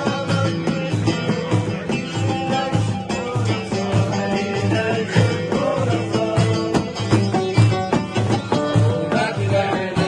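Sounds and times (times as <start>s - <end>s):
folk music with plucked strings: 0.0s - 10.0s
steady drum beat: 0.0s - 10.0s.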